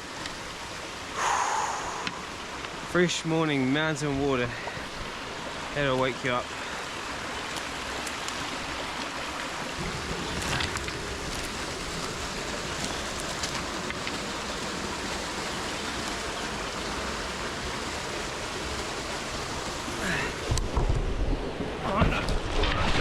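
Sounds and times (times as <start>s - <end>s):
mountain stream rushing over rocks: 0.0s - 23.0s.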